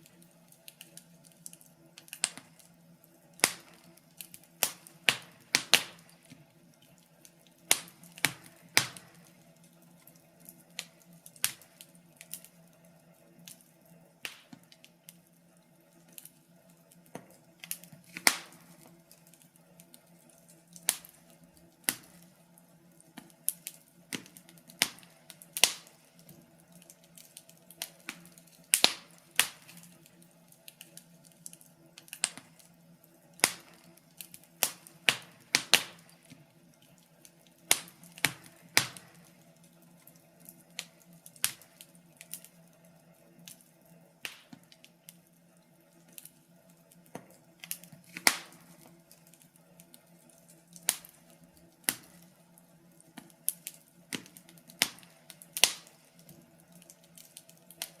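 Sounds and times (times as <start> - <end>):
faint steady low hum: 0.0 - 58.0
wood fire crackling: 0.0 - 58.0.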